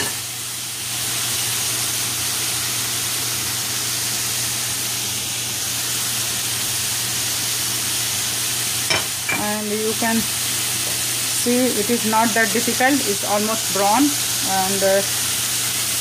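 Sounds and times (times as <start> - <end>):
chicken sizzling in skillet: 0.0 - 16.0.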